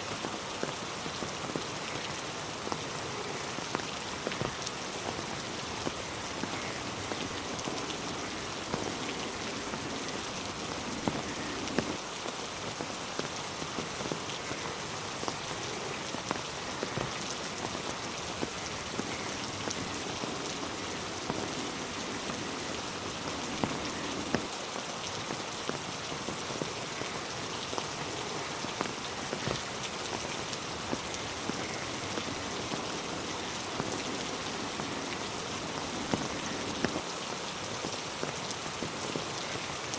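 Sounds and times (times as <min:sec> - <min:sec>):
rain falling on road and trees: 0:00.0 - 0:39.9.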